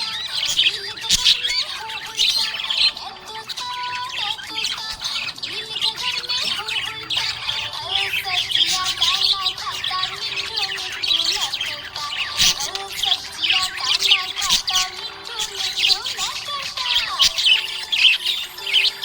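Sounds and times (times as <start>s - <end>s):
budgies chirping: 0.0s - 19.0s
simple background tune: 0.0s - 19.0s.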